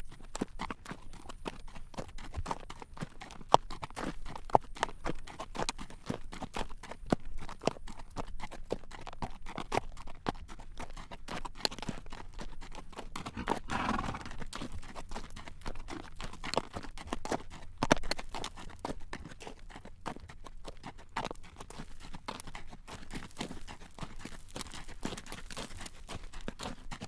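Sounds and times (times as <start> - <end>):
horse hooves clip-clopping on road: 0.0 - 27.0.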